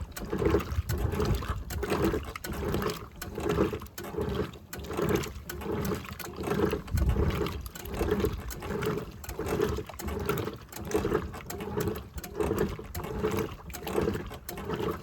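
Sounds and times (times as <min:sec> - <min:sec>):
washing machine agitating clothes: 0:00.0 - 0:15.0.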